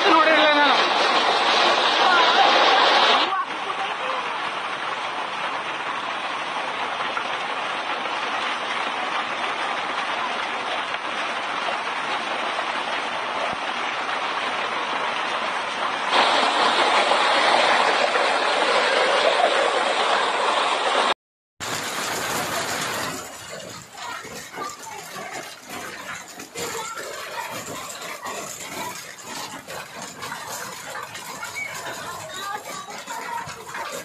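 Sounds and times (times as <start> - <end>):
hail and rain pelting down: 0.0 - 34.0.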